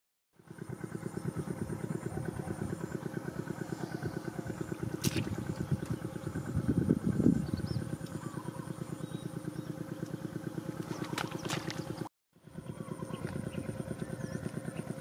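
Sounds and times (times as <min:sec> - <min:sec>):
small engine chugging: 0:00.4 - 0:15.0.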